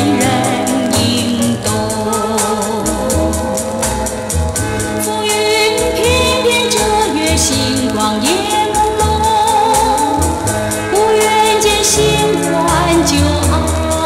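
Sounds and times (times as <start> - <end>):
vintage pop song: 0.0 - 14.0.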